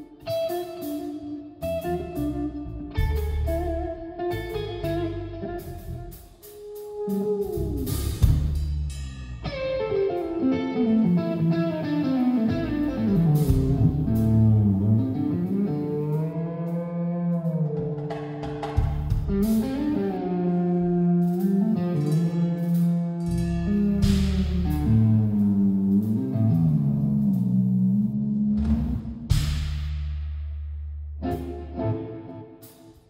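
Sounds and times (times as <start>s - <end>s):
live rock band: 0.0s - 8.6s, 9.4s - 29.6s, 31.2s - 33.0s
electric guitar bending notes: 0.0s - 29.4s, 31.2s - 32.8s.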